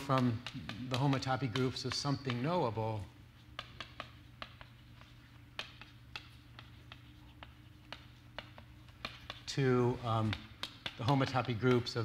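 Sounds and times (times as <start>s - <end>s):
chalk tapping on blackboard: 0.0s - 12.0s.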